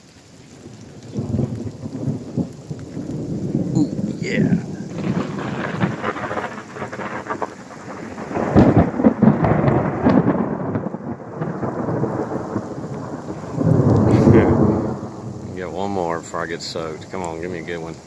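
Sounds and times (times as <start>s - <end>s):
steady rain: 0.0s - 18.0s
thunder rumbling: 0.4s - 18.0s.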